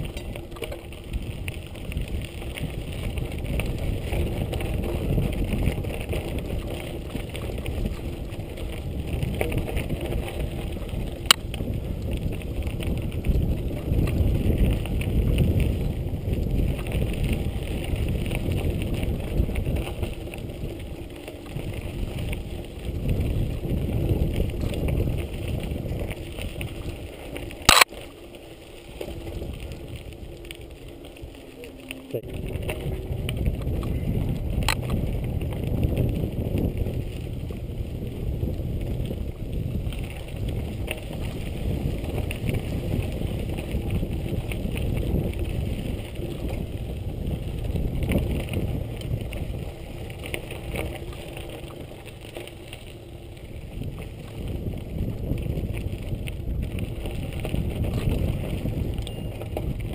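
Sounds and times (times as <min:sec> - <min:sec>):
bike frame rattle: 0:00.0 - 0:59.9
bike tyre rumble on dirt: 0:00.0 - 0:59.9
wind on microphone: 0:00.0 - 0:59.9.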